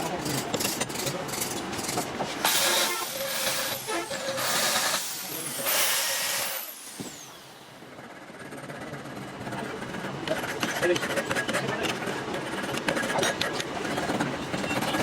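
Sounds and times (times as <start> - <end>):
workshop background: 0.0 - 15.0.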